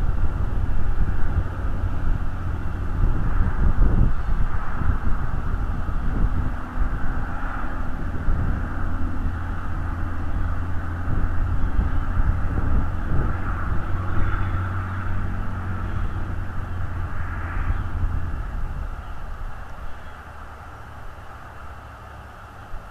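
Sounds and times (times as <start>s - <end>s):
distant engine rumble: 0.0s - 22.9s.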